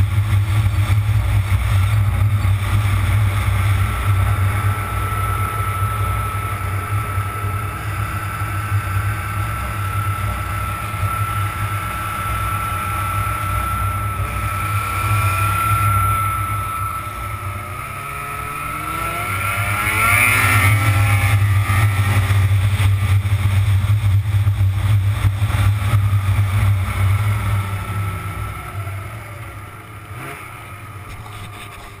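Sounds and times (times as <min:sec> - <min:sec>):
snowmobile engine running: 0:00.0 - 0:32.0
steady high whine: 0:00.0 - 0:32.0.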